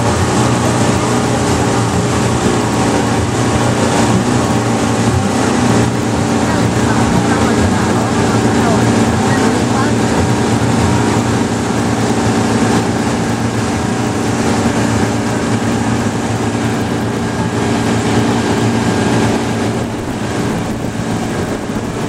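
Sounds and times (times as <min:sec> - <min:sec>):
boat motor humming: 0:00.0 - 0:22.0
wind and water noise: 0:00.0 - 0:22.0.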